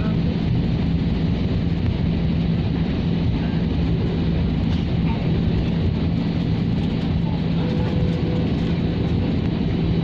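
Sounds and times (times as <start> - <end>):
airliner cabin jet engine drone: 0.0 - 10.0.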